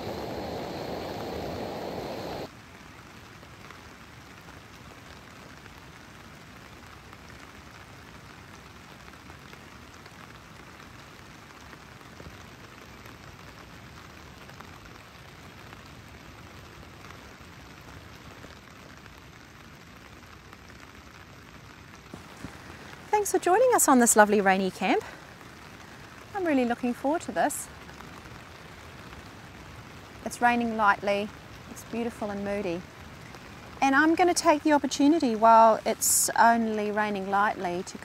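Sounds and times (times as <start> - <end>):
rain on a tent: 0.0 - 38.0.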